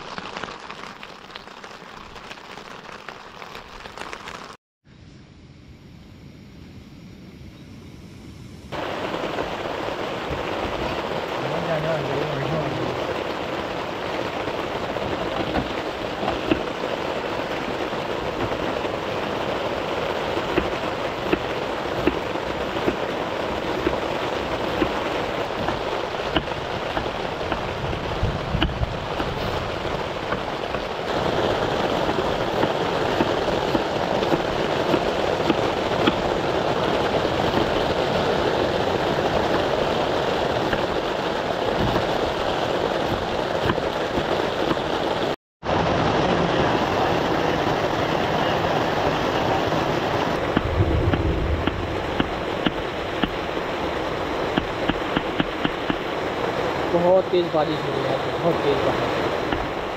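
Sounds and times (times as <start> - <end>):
heavy rain on a tent: 0.0 - 4.6, 8.7 - 59.9.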